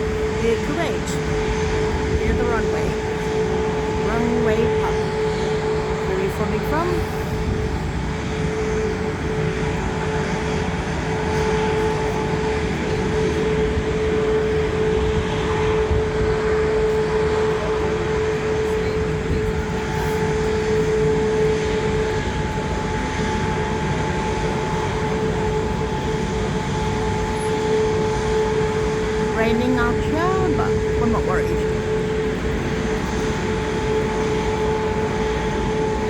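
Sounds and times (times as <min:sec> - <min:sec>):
jet engines whining and rumbling: 0:00.0 - 0:36.0.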